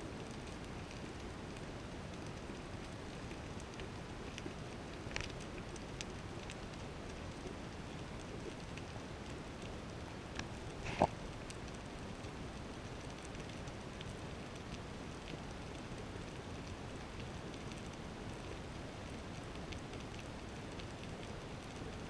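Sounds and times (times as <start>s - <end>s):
faint ticks and crackles: 0.0s - 22.0s.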